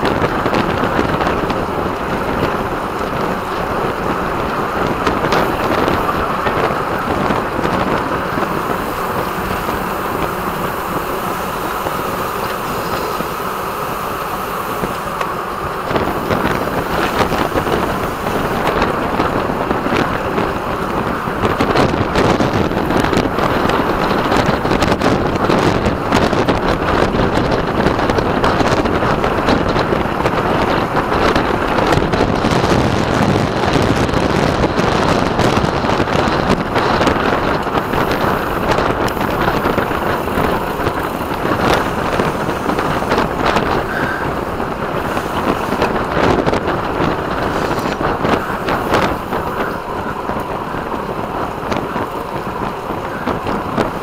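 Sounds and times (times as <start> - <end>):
wind rushing on microphone: 0.0 - 54.0.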